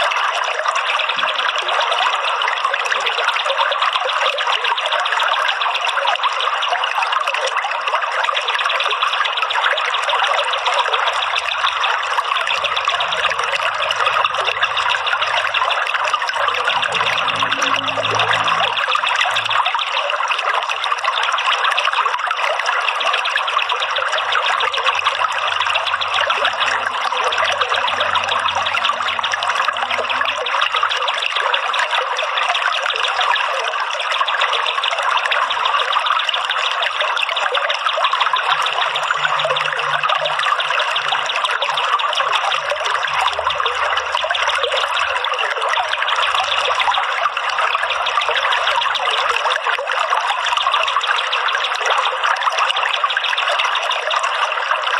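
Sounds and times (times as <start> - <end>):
trickling running water: 0.0 - 54.9.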